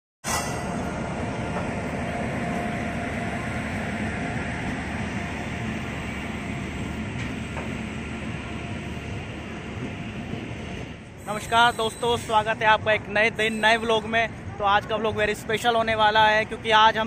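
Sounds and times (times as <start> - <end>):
train wheels rumbling on rails: 0.2 - 17.0.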